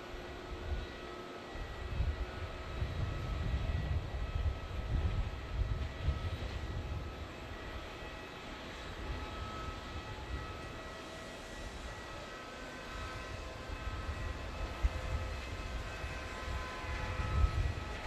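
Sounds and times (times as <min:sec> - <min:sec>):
faint steady whine: 0:00.0 - 0:18.0
jet engines rumbling: 0:00.0 - 0:18.0.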